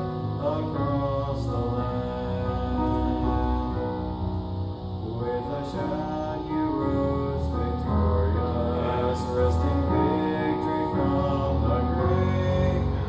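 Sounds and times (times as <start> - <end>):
man singing: 0.0 - 4.1, 5.0 - 13.0
keyboard chords: 0.0 - 13.0.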